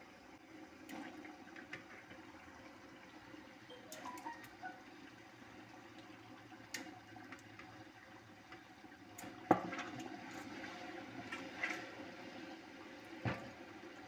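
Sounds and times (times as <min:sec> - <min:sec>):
stew simmering and bubbling: 0:00.0 - 0:14.0.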